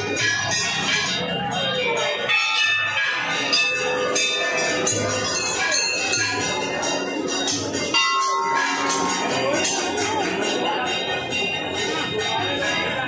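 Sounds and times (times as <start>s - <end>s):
brass bells struck and ringing: 0.0s - 13.0s.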